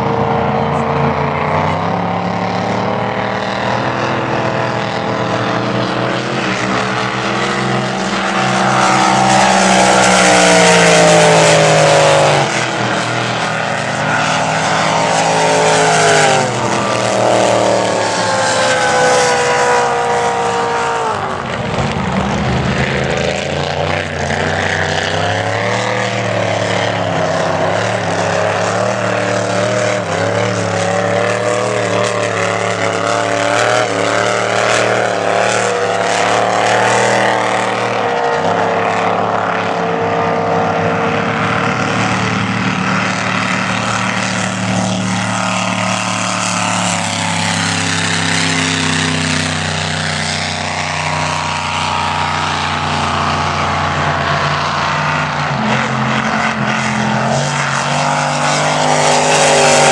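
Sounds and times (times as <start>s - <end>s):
race boat engines passing: 0.0s - 59.9s.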